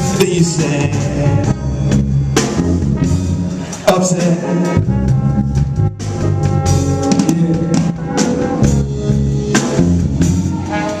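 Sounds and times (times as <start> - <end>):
live band playing: 0.0 - 11.0
sustained keyboard chords: 0.0 - 11.0.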